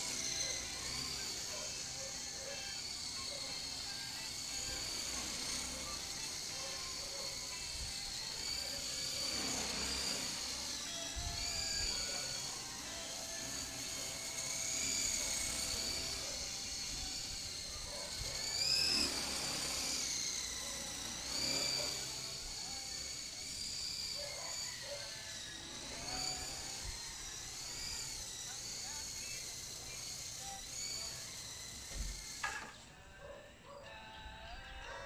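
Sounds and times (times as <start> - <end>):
model helicopter motors whining: 0.0 - 33.2.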